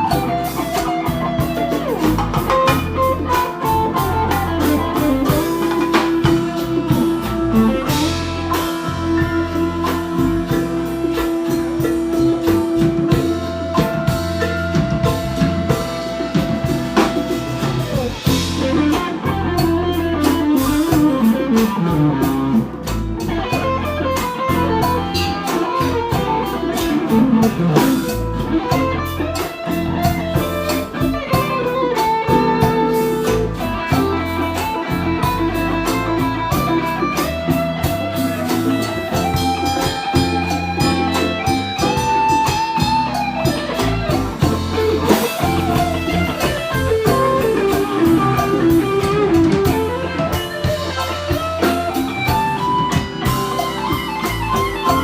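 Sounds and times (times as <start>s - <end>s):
bass: 0.0s - 55.0s
drum kit: 0.0s - 55.0s
electric guitar lead: 0.0s - 55.0s.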